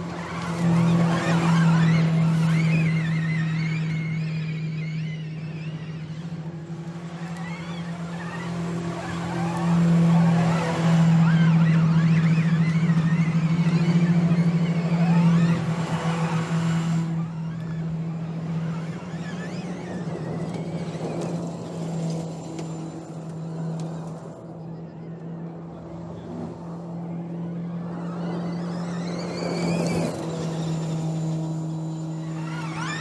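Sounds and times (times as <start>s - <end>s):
rally car steady hum: 0.0s - 33.0s.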